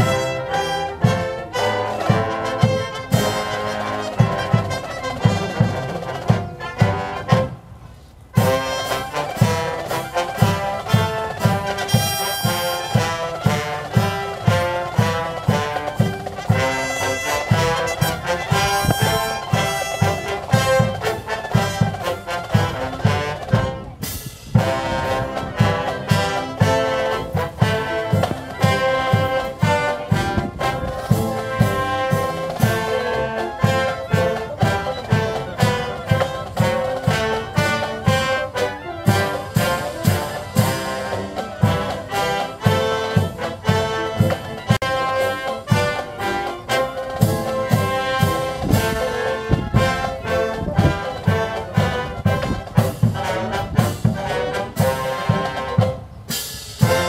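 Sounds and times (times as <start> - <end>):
brass band playing a march: 0.0 - 57.0.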